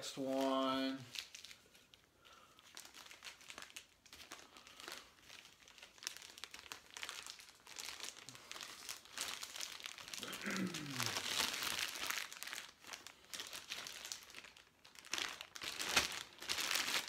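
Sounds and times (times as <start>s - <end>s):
plastic sleeve crinkling: 0.0s - 17.0s.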